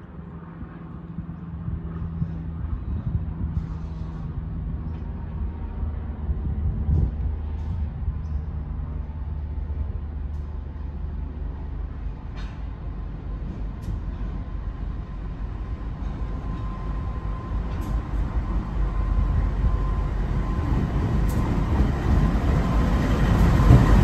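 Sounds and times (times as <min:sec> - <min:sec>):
locomotive engine rumble: 0:00.0 - 0:24.0.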